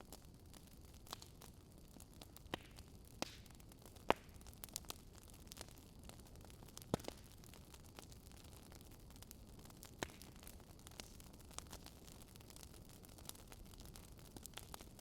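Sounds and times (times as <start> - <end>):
campfire popping: 0.0 - 15.0.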